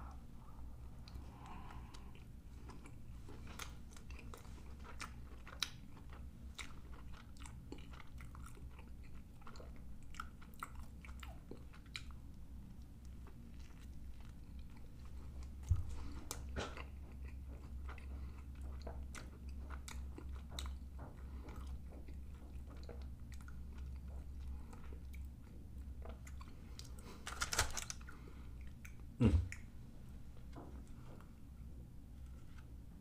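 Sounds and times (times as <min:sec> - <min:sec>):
low steady hum: 0:00.0 - 0:33.0
wet chewing sounds: 0:00.9 - 0:29.7.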